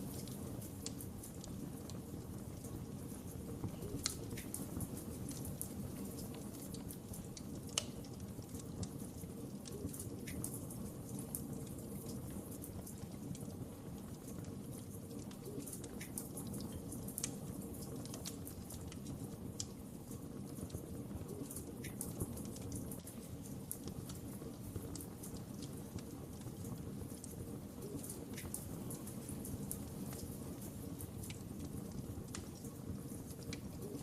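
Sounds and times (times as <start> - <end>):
low rumble of flames: 0.0 - 34.0
wood fire crackling: 0.0 - 34.0
sharp pops and snaps: 3.6 - 19.8, 20.6 - 34.0.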